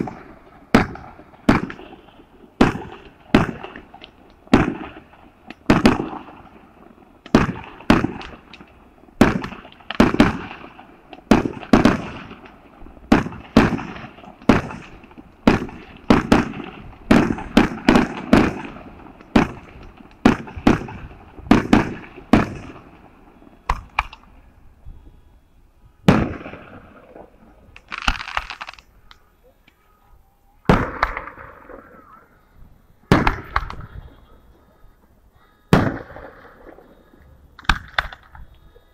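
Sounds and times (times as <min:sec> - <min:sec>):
fireworks bursting: 0:00.0 - 0:29.5, 0:30.6 - 0:35.0, 0:35.7 - 0:38.5.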